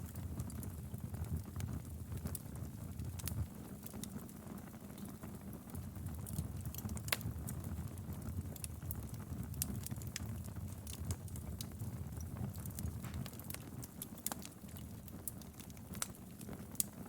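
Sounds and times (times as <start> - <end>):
burning logs crackling and popping: 0.0 - 17.0
low rumble of flames: 0.0 - 17.0.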